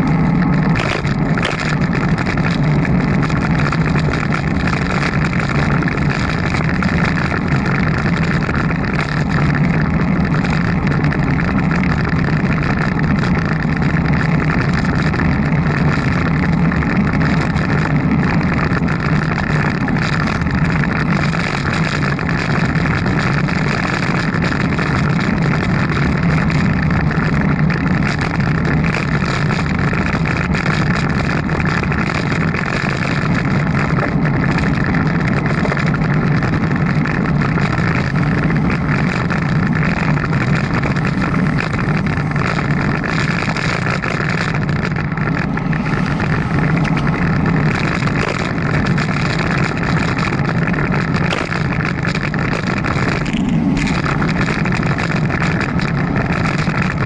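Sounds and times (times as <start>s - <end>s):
bicycle riding rush: 0.0s - 57.0s
road rumble: 0.0s - 57.0s
wind on microphone: 0.0s - 57.0s.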